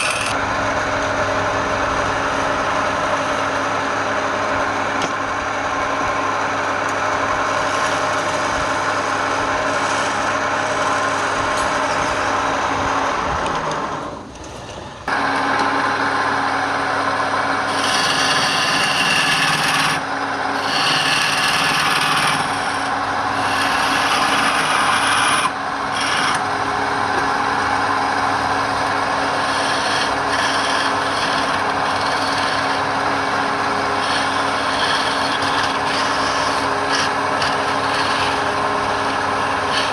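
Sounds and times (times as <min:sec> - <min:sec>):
tool scraping spinning wood: 0:00.0 - 0:00.4, 0:06.8 - 0:39.9
wood lathe humming: 0:00.0 - 0:39.9.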